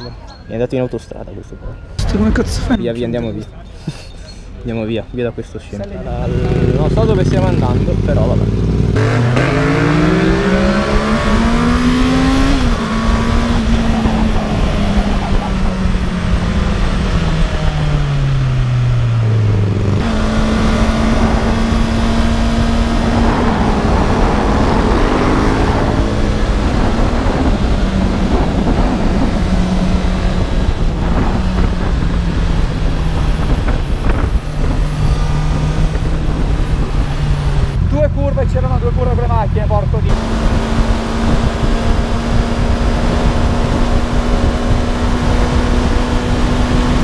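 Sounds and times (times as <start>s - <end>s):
heavy wind rush: 1.9s - 47.0s
motorcycle engine revving: 5.9s - 47.0s.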